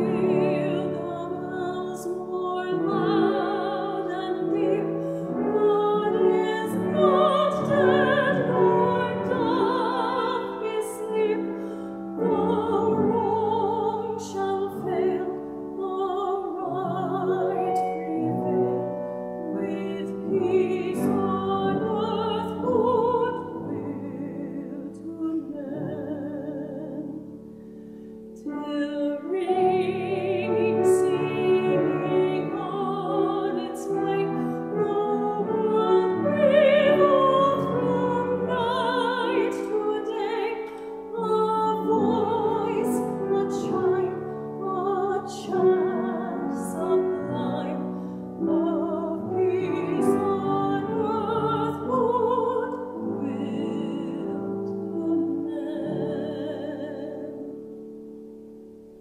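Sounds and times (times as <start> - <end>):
woman singing with vibrato: 0.0 - 27.6, 28.4 - 57.8.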